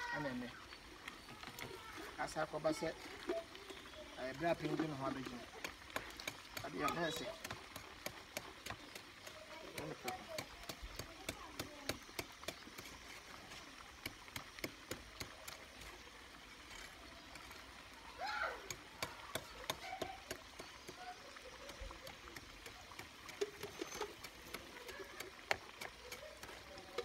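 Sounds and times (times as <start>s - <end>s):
stew simmering and popping: 0.0s - 27.0s.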